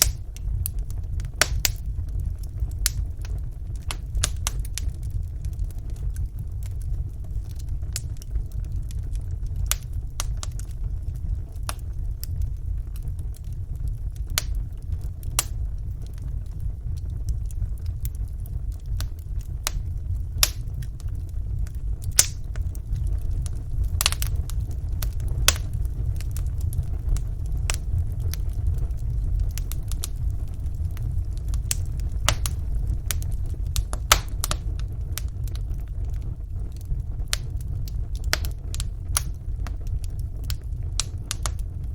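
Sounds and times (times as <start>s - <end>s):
fire roaring: 0.0s - 41.9s
logs crackling and popping: 0.0s - 41.9s.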